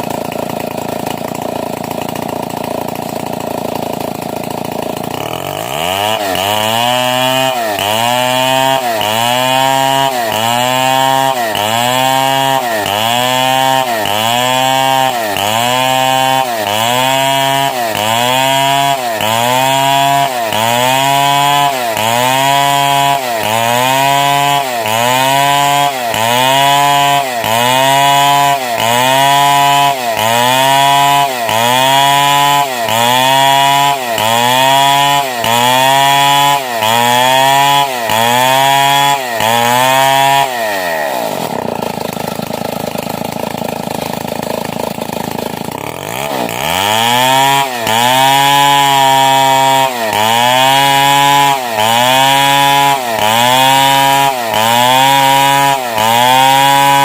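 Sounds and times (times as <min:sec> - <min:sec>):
chainsaw ripping a log: 0:00.0 - 0:57.0.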